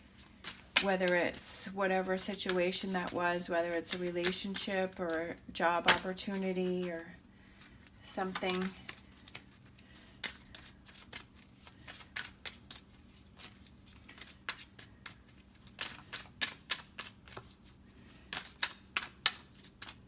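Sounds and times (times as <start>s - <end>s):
cards being shuffled by hand: 0.0s - 20.0s.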